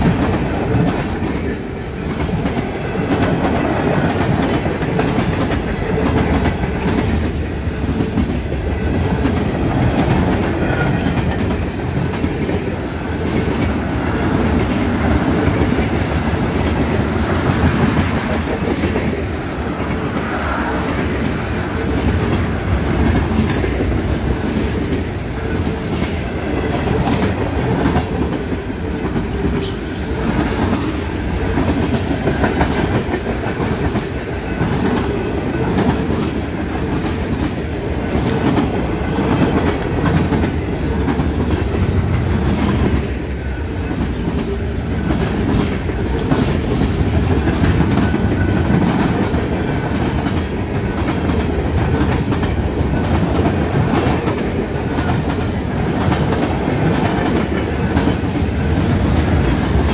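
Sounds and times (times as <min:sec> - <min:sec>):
freight train rumbling past: 0:00.0 - 0:59.9
steel wheels on rails: 0:00.0 - 0:59.9
train cars clattering: 0:00.0 - 0:59.9.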